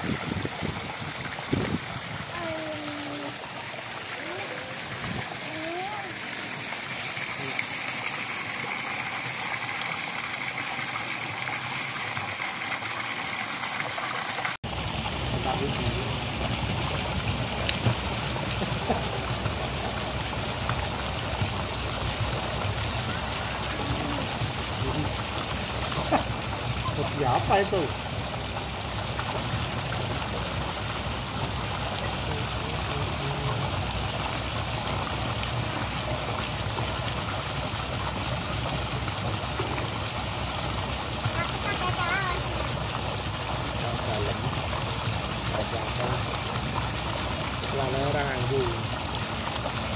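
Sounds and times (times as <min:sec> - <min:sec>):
water splashing in pool: 0:00.0 - 0:49.9.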